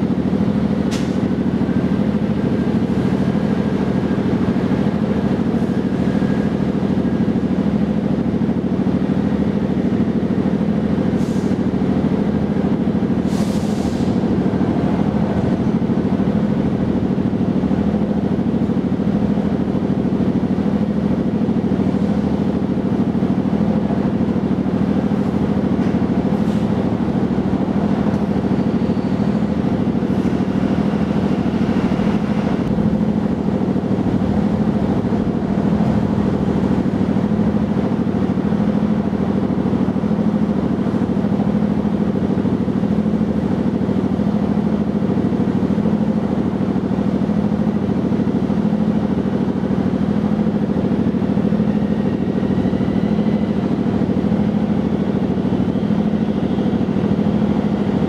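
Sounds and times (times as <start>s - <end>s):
loud low mechanical hum: 0.0s - 58.0s.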